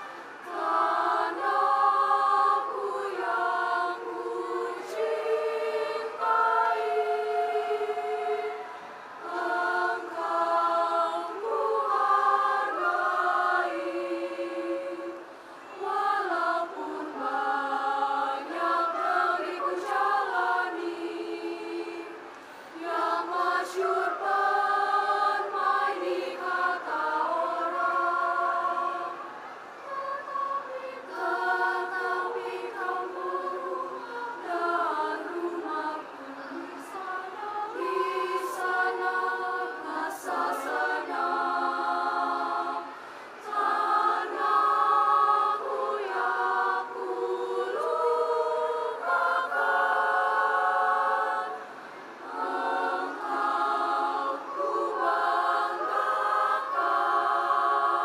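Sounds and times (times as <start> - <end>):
youth choir singing in harmony: 0.0 - 58.0.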